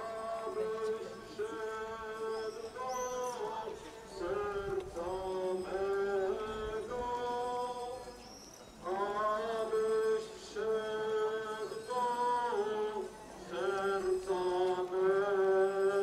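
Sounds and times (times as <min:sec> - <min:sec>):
voices singing a slow hymn: 0:00.0 - 0:16.0.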